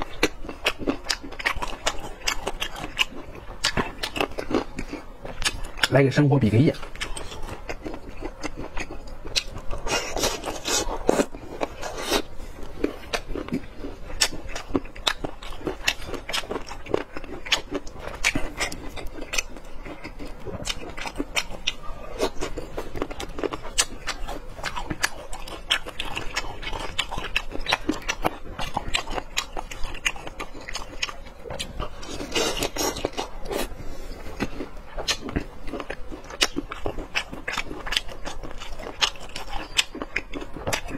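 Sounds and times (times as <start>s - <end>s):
mouth clicks and smacks chewing: 0.0s - 6.0s, 6.7s - 40.9s.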